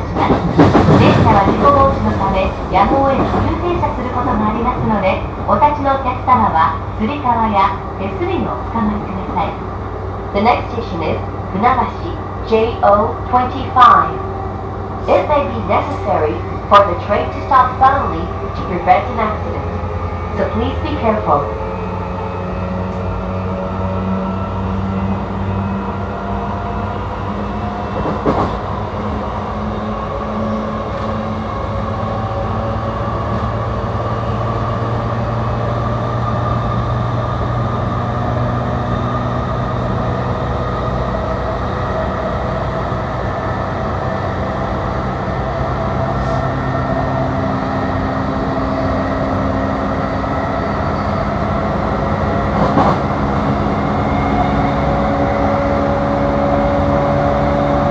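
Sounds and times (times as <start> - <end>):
wheels rumbling on rail: 0.0 - 57.9.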